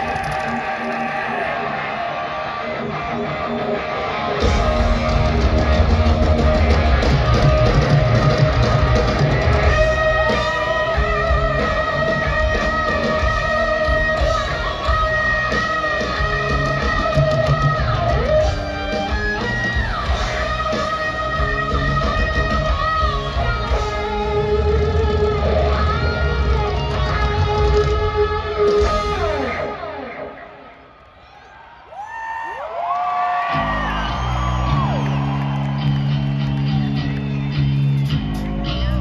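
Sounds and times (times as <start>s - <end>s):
live hard rock band: 0.0s - 30.8s, 33.4s - 39.0s.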